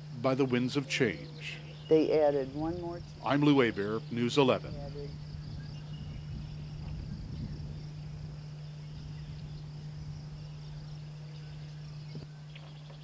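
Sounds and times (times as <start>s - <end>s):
insects chirring: 0.0s - 13.0s
steady low hum: 0.0s - 13.0s.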